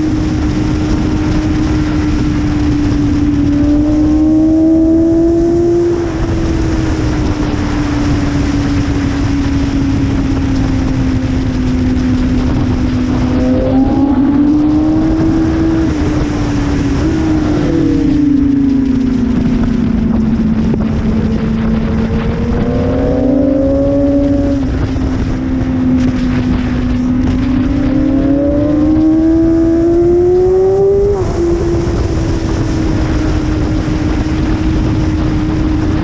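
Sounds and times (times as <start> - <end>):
motorcycle engine at high revs: 0.0 - 36.0
wind noise: 0.0 - 36.0.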